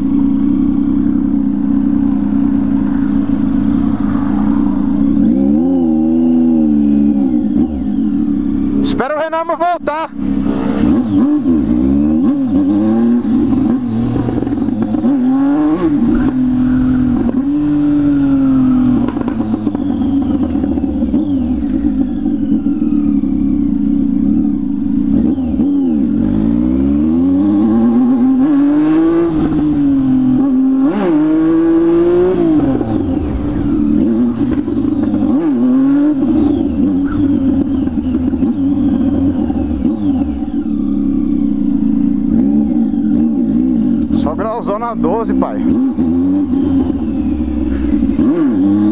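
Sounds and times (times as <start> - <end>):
motorcycles revving: 0.0 - 48.9.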